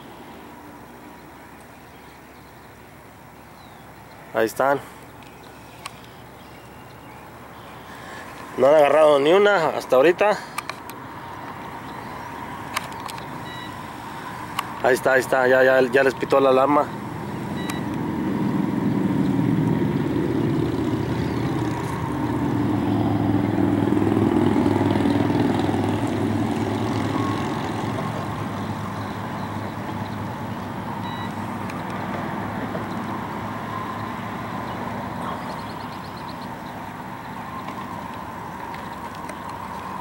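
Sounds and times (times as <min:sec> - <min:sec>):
passing engine rumble: 0:00.0 - 0:40.0.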